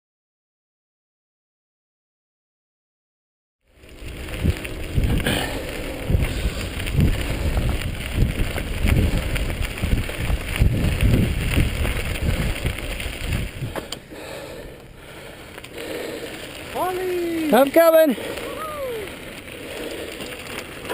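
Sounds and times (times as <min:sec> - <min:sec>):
bike tyres on dirt rattling: 0:03.6 - 0:20.9
wind buffeting microphone: 0:03.8 - 0:20.9.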